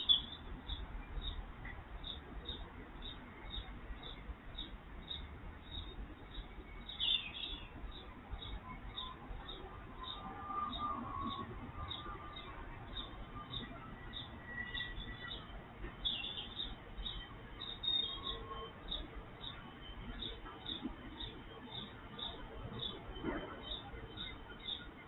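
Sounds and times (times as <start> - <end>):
bird chirping: 0.0 - 1.4, 2.0 - 25.0.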